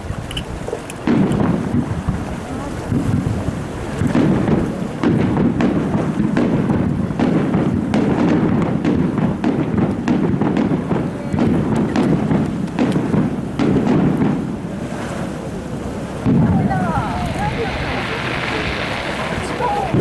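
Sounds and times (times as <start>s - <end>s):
fireworks booming and cracking: 1.0s - 20.0s.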